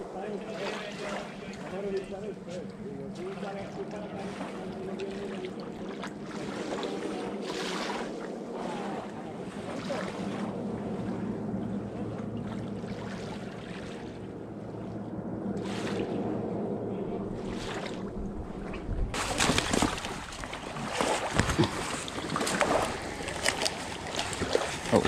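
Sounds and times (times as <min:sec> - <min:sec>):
small waves washing ashore: 0:00.0 - 0:25.0
steady low hum: 0:00.0 - 0:25.0.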